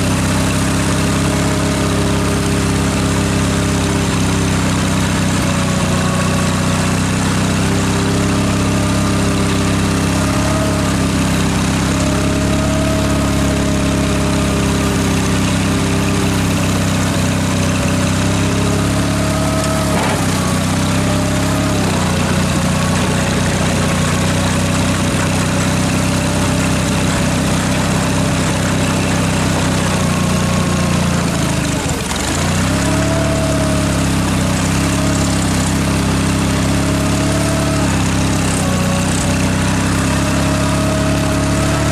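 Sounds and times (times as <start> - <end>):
tractor engine idling: 0.0 - 41.9.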